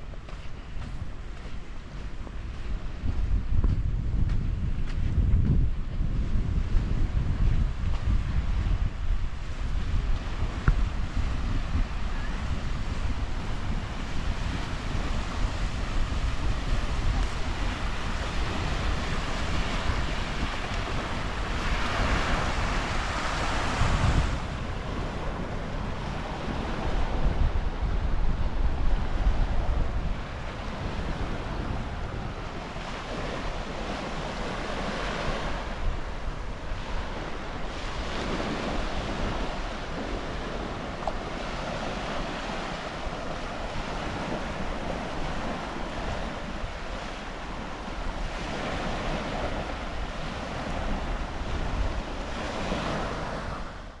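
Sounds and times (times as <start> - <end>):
surf breaking on a beach: 0.0 - 54.0
wind buffeting the microphone: 0.0 - 54.0.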